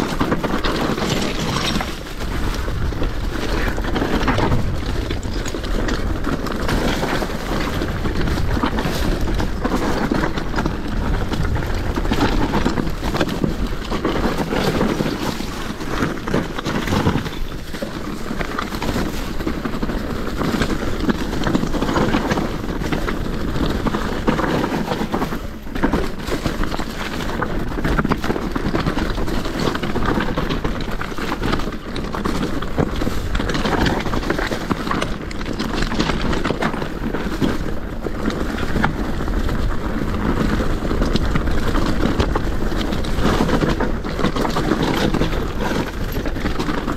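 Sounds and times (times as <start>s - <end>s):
bike rattling over bumps: 0.0s - 46.9s
tyre rumble on dirt and leaves: 0.0s - 46.9s
wind buffeting microphone: 0.0s - 46.9s.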